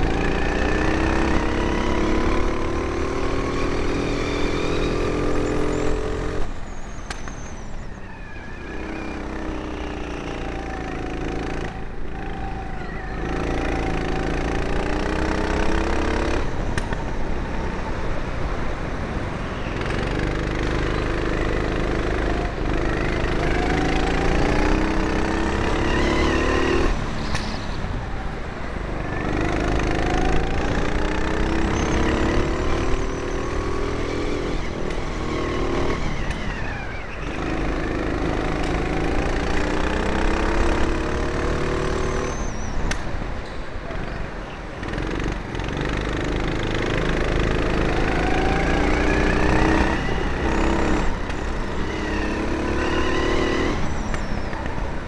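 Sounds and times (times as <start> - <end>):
kart engine revving: 0.0 - 7.6, 8.2 - 17.9, 19.6 - 43.1, 43.8 - 55.0.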